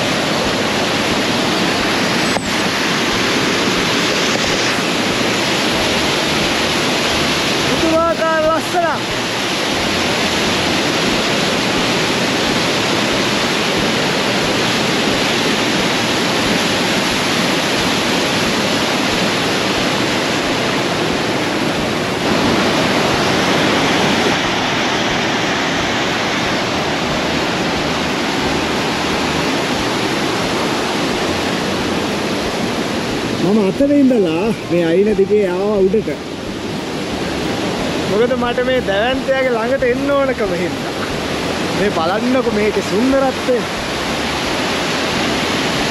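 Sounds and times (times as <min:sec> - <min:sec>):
waterfall crashing over rocks: 0:00.0 - 0:45.9.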